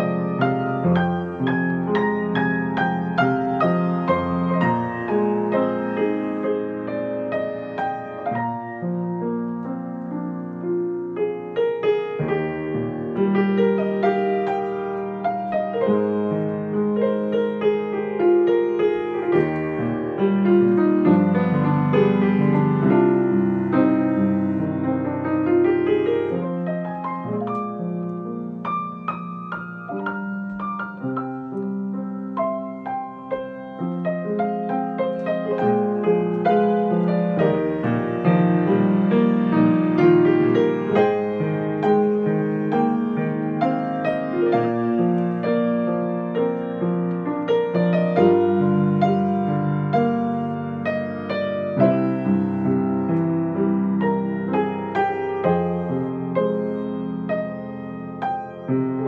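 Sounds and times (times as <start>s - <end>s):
grand piano piece: 0.0s - 59.0s.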